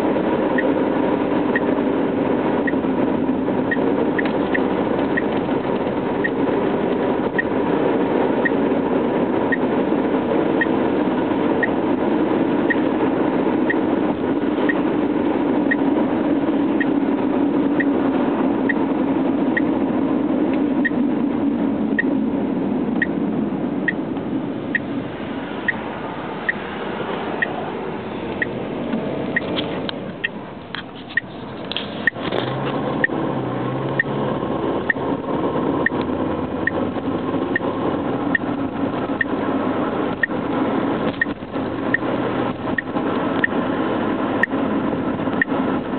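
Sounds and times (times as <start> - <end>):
road and engine noise: 0.0 - 45.9.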